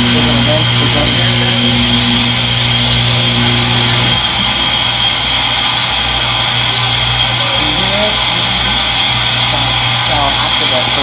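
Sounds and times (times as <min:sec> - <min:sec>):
high motor whine: 0:00.0 - 0:11.0
low hum: 0:00.0 - 0:11.0
washing machine spinning: 0:00.0 - 0:11.0.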